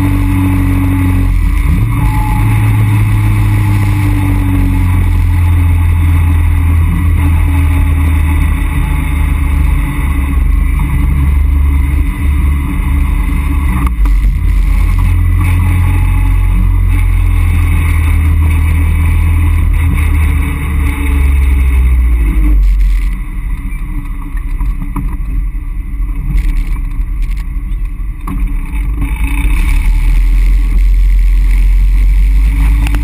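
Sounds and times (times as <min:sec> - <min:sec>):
car engine and exhaust: 0:00.0 - 0:33.0.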